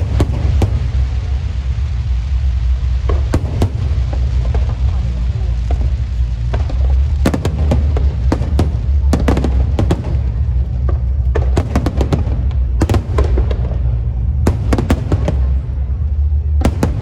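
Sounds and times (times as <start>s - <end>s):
deep rumble: 0.0s - 17.0s
fireworks bangs: 0.0s - 17.0s.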